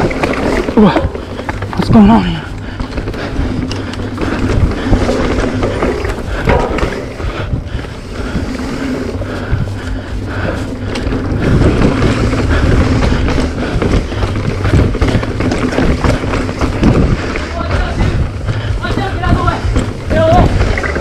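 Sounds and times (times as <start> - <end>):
bike chain rattling: 0.0 - 21.0
bike tyres rumbling on dirt: 0.0 - 21.0
wind rushing over microphone: 0.8 - 21.0.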